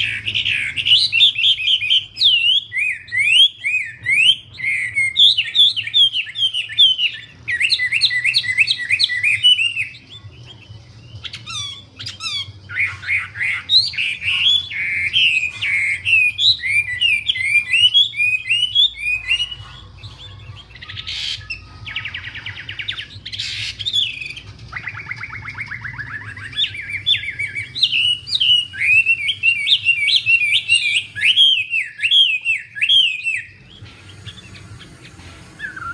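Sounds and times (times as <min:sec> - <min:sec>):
buzzy rattling trills: 0:00.0 - 0:35.9
songbird singing: 0:00.0 - 0:35.9.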